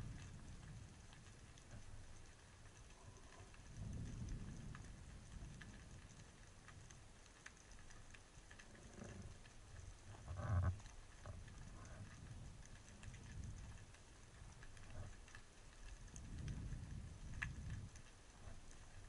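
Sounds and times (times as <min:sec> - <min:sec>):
low sloshing rumble: 0:00.0 - 0:07.3, 0:08.6 - 0:19.0
small underwater clicks: 0:00.0 - 0:19.0.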